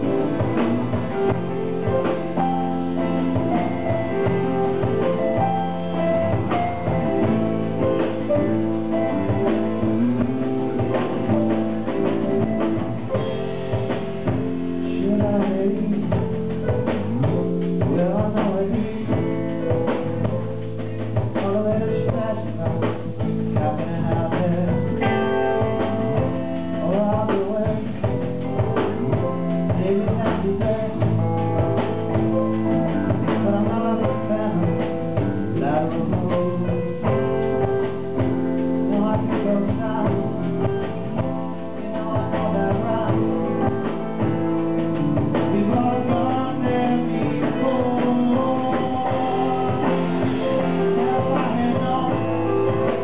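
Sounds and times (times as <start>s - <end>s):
live blues band: 0.0s - 53.0s.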